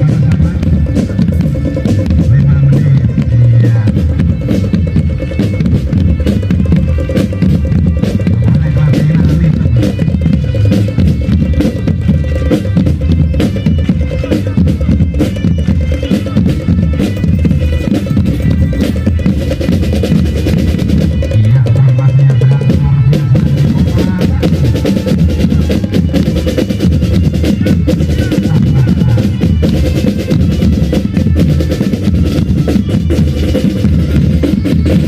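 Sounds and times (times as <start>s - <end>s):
bass drums: 0.0s - 35.0s.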